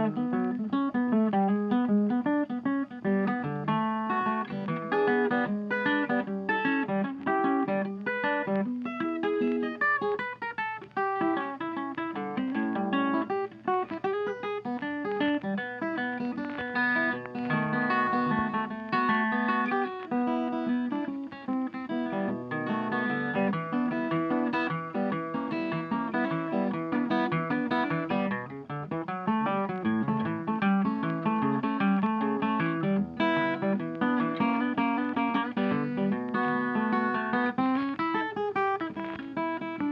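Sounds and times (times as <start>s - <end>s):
plucked acoustic guitar: 0.0s - 39.9s.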